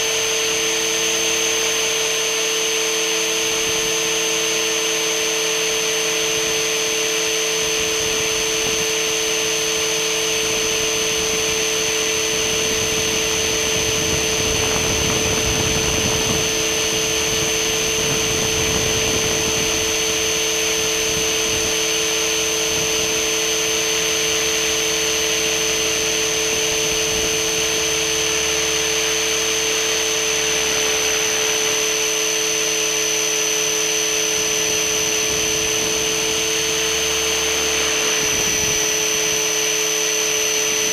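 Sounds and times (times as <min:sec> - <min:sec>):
helicopter motor whine: 0:00.0 - 0:40.9
rotor noise: 0:00.0 - 0:40.9.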